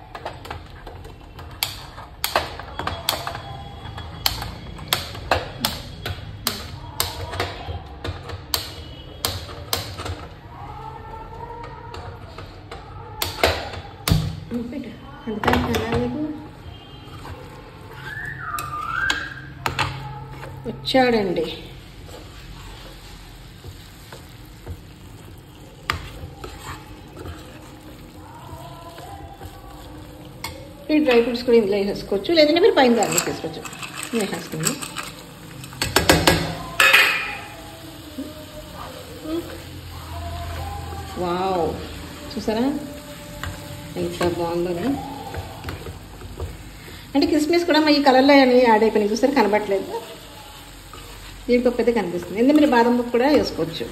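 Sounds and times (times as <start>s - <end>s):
spoon stirring in a pan: 0.0s - 14.2s, 15.4s - 53.9s
faint background music: 0.0s - 53.9s.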